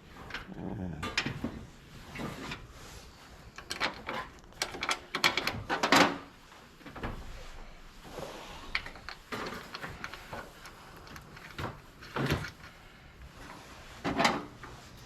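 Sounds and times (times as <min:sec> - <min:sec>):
hand tools clicking and scraping: 0:00.1 - 0:06.3, 0:08.4 - 0:15.0.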